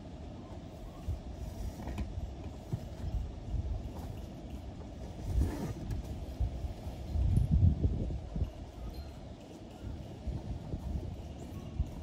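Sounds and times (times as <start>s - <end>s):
wind rumbling on microphone: 0.7s - 12.0s.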